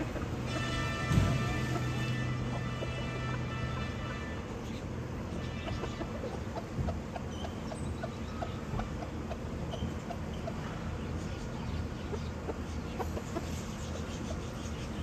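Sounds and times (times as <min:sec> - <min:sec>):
chickens clucking: 0:00.0 - 0:15.0
steady low hum: 0:00.0 - 0:15.0.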